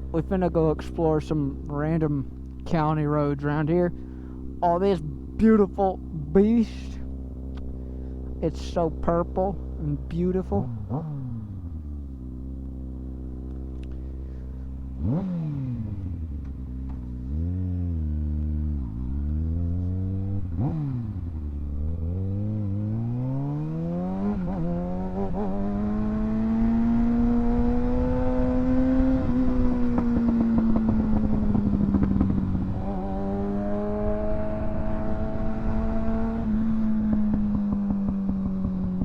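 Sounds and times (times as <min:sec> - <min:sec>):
low wind rumble: 0:00.0 - 0:39.0
motorcycle engine revving: 0:00.0 - 0:39.0.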